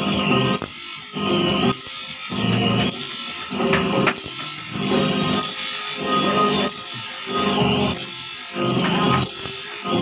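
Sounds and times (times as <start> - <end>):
grinding disc sharpening saw teeth: 0.5 - 10.0.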